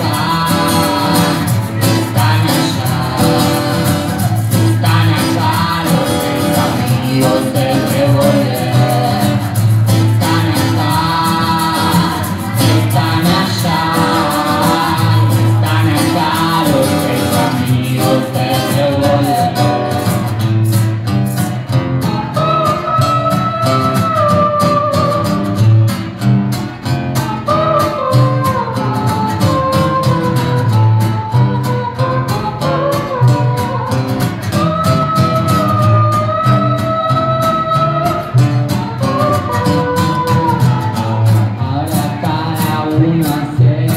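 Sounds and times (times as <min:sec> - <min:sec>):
person singing: 0:00.0 - 0:25.8, 0:26.9 - 0:43.9
strummed acoustic guitars: 0:00.0 - 0:43.9
upright double bass: 0:00.0 - 0:43.9.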